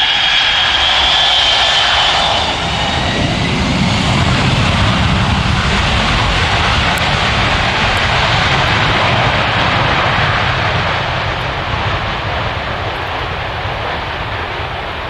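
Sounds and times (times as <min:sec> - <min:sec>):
jet engine crackling rumble: 0:00.0 - 0:15.0
jet engine high whine: 0:00.0 - 0:15.0.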